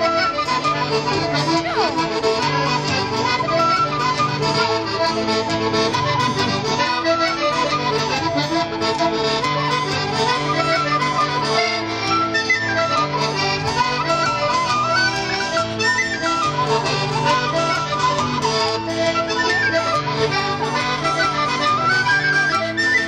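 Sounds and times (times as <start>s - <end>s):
accordion dance tune: 0.0s - 23.0s.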